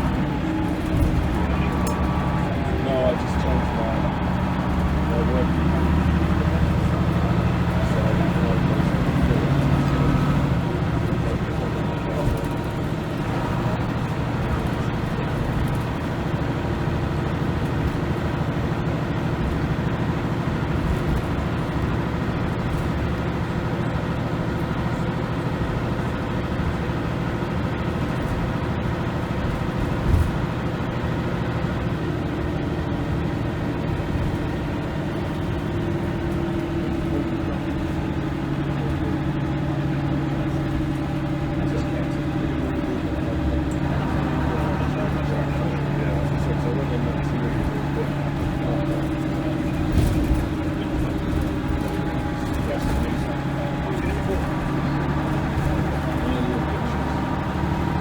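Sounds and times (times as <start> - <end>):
bus diesel engine droning: 0.0 - 58.0
road noise: 0.0 - 58.0.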